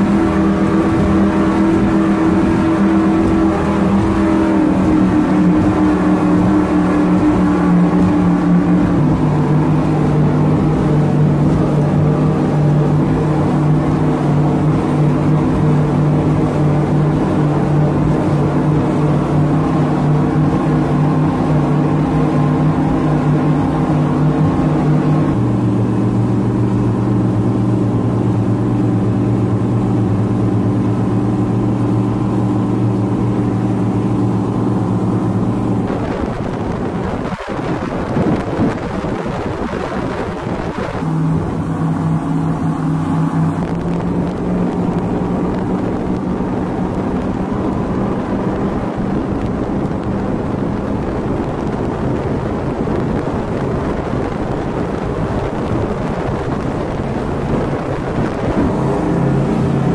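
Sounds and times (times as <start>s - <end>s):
vehicle engine running: 0.0s - 59.9s
wind on microphone: 0.0s - 59.9s.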